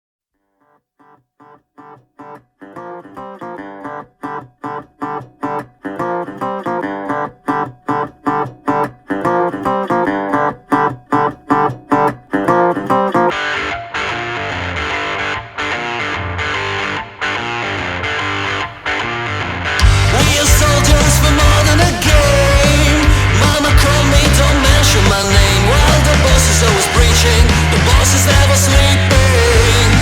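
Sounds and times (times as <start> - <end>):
distorted guitar layer: 1.4 - 30.0.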